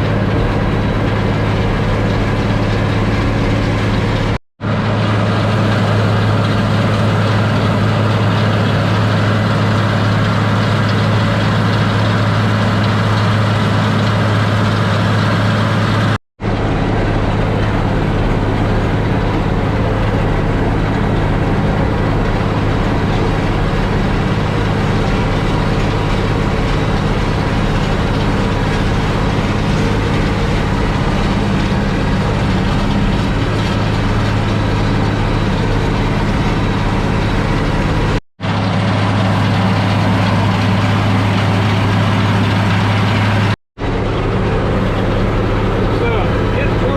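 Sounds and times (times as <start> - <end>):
tractor diesel engine hum: 0.0 - 46.9.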